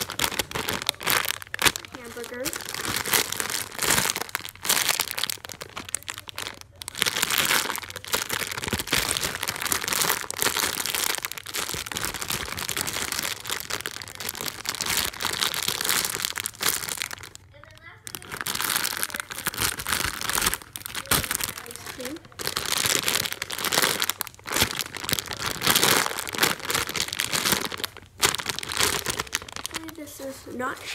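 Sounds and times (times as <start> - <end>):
plastic bag crinkling: 0.0 - 30.9.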